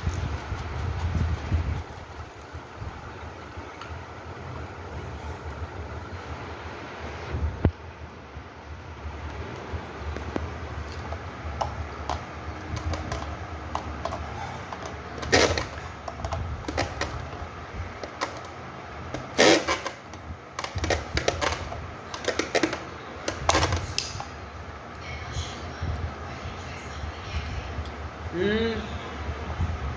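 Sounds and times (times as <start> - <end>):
low background rumble: 0.0 - 19.2, 20.1 - 29.9.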